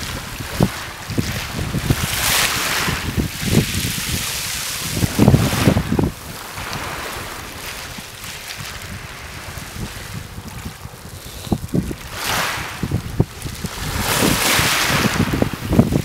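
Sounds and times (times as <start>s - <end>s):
waves hissing over pebbles: 0.0s - 16.0s
wind buffeting microphone: 0.0s - 16.0s.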